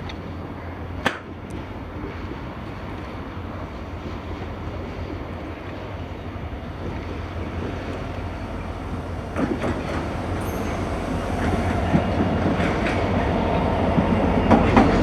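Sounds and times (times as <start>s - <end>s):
train rumbling on track: 0.0s - 15.0s
wind buffeting microphone: 1.5s - 15.0s.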